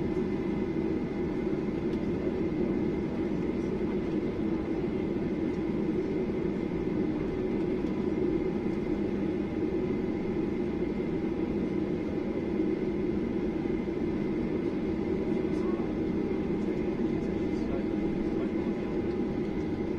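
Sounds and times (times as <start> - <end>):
jet engines rumbling: 0.0 - 19.9.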